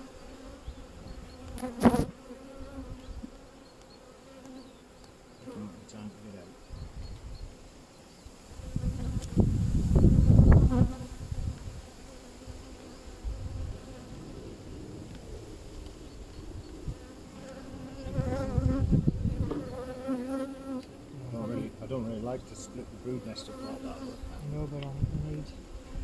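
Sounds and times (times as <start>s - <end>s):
honeybees buzzing: 0.0s - 14.8s, 15.7s - 26.0s.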